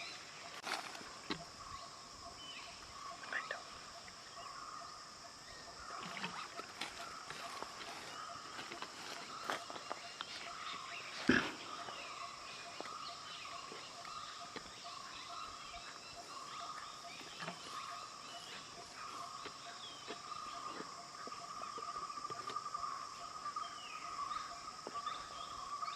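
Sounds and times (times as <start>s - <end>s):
insects chorus: 0.0s - 25.9s
bird chirps: 1.2s - 25.9s.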